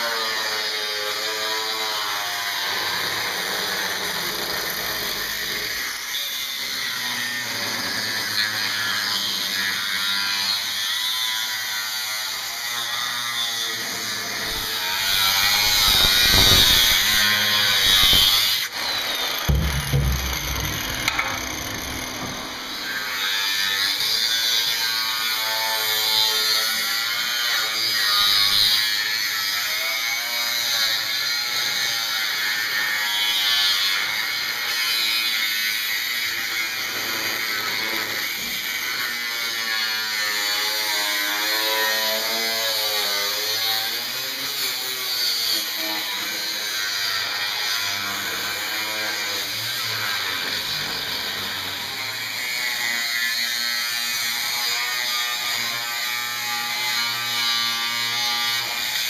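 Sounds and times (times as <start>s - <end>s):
angle grinder cutting metal: 0.0s - 59.0s.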